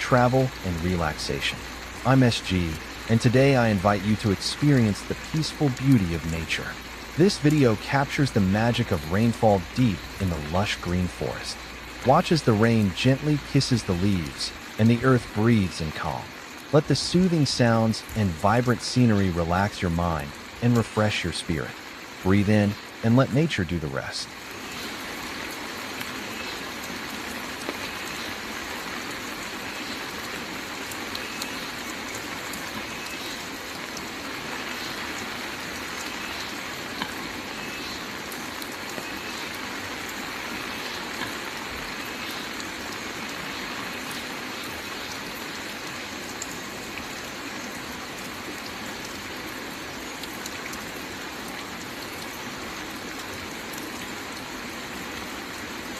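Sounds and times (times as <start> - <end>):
rain falling: 0.0 - 55.9
raindrops ticking close by: 0.0 - 55.9.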